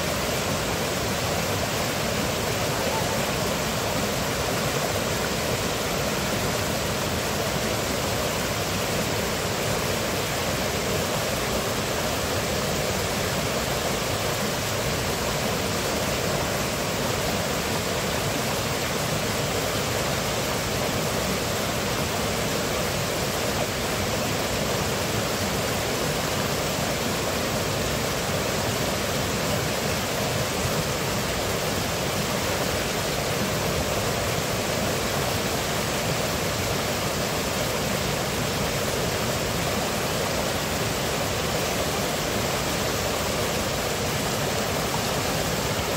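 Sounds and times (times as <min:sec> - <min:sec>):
stream splashing over boulders: 0:00.0 - 0:45.9.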